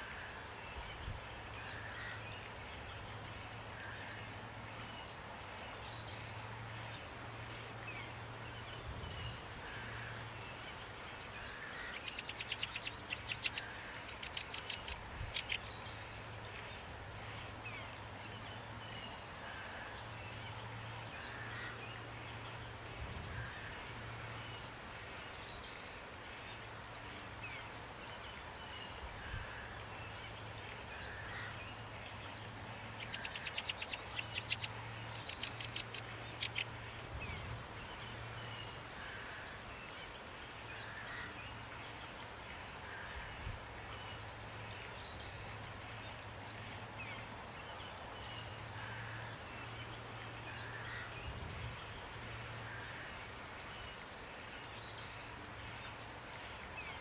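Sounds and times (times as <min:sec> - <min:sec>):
rain hiss: 0:00.0 - 0:57.0
songbirds chirping: 0:00.0 - 0:57.0.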